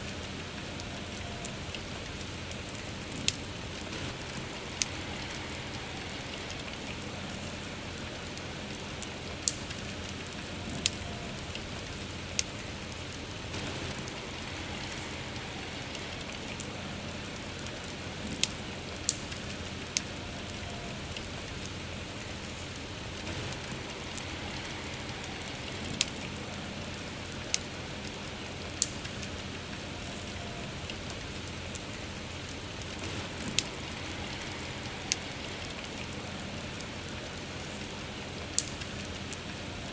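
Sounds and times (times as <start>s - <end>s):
campfire crackling and popping: 0.0s - 39.9s
soft rain: 0.0s - 39.9s.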